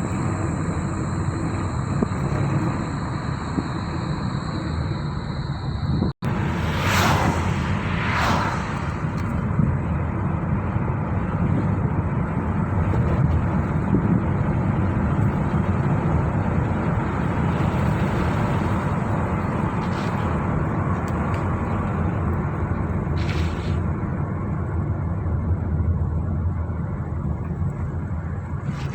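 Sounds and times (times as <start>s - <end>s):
car engine and tyre noise: 0.0s - 28.9s.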